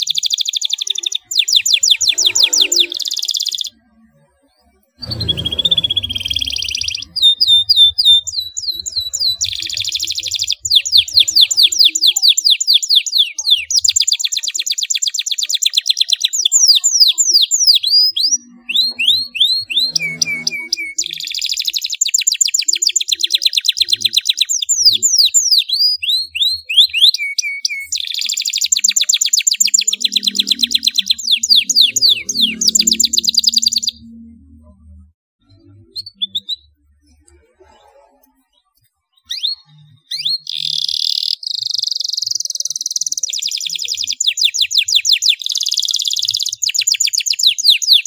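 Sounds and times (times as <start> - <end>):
canary singing trills: 0.0 - 48.0.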